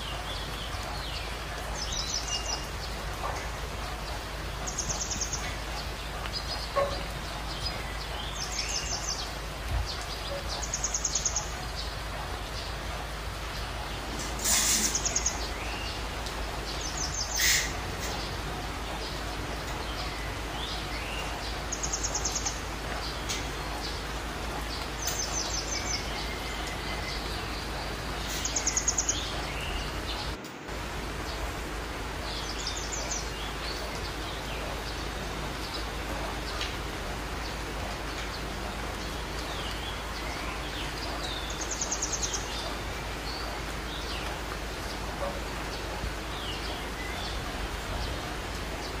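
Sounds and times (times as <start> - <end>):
birds chirping: 0.0 - 49.0
steady background hiss: 0.0 - 49.0.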